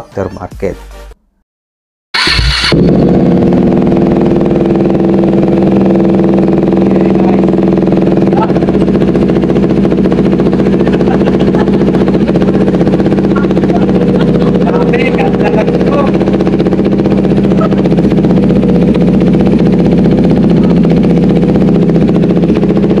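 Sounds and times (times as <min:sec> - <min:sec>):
motorcycle engine starting and idling: 0:02.2 - 0:23.0.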